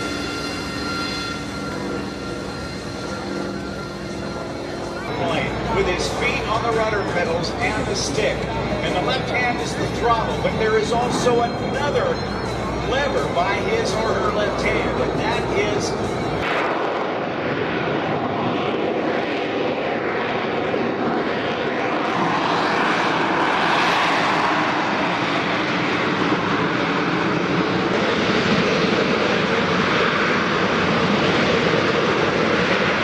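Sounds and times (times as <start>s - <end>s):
loud jet noise with hum: 0.0s - 33.0s.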